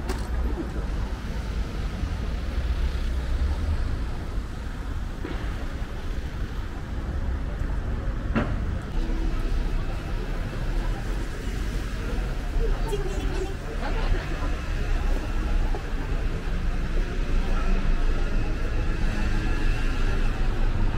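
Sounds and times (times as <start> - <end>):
traffic rumble: 0.0 - 20.9.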